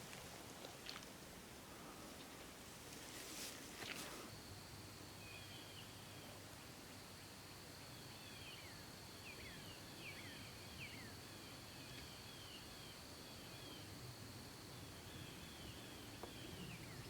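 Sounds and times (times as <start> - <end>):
songbird chirps: 1.8 - 14.0, 14.6 - 17.0.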